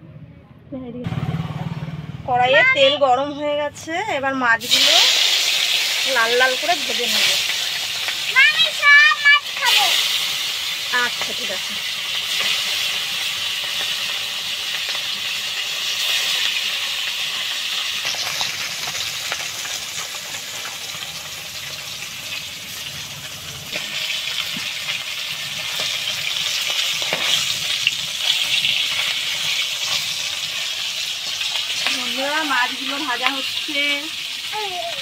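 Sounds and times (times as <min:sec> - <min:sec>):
fish sizzling in hot oil: 0:03.7 - 0:35.0
oil popping: 0:04.6 - 0:35.0.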